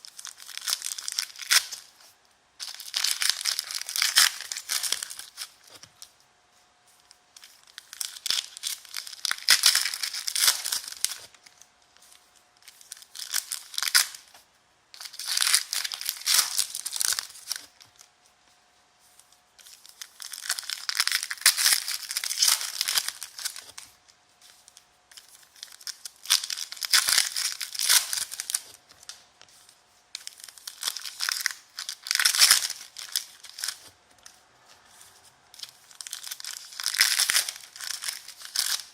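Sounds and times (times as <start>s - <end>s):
foil wrappers tearing and crinkling: 0.0s - 2.0s, 2.6s - 6.0s, 7.4s - 11.6s, 12.6s - 14.3s, 15.0s - 18.1s, 19.6s - 23.9s, 24.5s - 38.9s.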